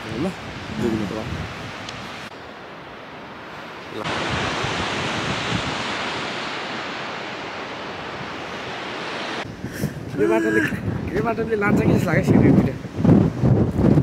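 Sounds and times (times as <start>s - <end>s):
wind on microphone: 0.0s - 2.3s, 4.0s - 14.0s
sea surf breaking: 0.0s - 14.0s.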